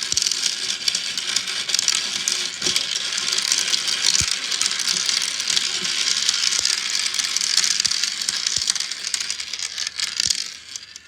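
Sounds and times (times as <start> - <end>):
tiny balls rattling in marble run: 0.0 - 11.0.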